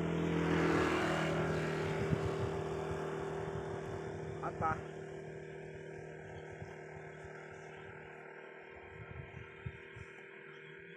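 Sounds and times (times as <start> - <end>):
low engine hum: 0.0 - 10.9.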